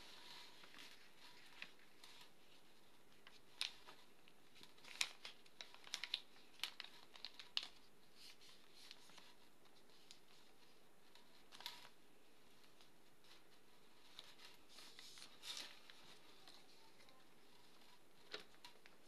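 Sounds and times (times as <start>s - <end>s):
paper crackling and rustling: 0.0s - 19.0s.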